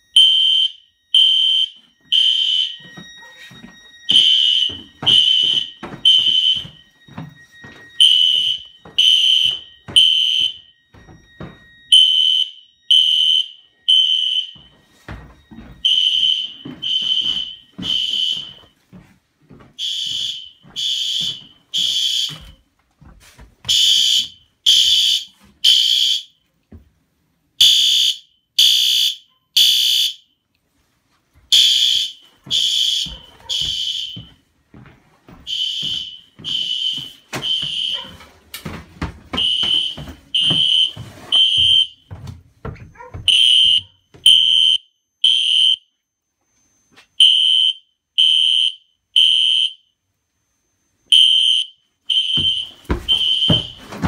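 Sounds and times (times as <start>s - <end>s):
fire alarm high beeps: 0.0s - 19.1s, 19.8s - 22.8s, 23.6s - 26.5s, 27.6s - 30.4s, 31.5s - 34.6s, 35.3s - 54.0s.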